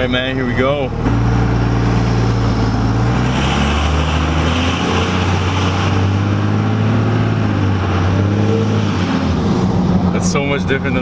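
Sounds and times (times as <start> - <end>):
diesel pickup truck driving away: 0.0 - 11.0.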